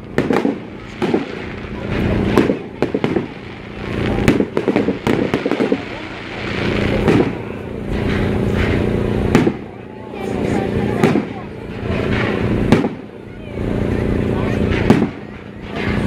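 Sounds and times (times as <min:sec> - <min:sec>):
fireworks bangs and pops: 0:00.0 - 0:16.0
fireworks hissing: 0:00.0 - 0:16.0.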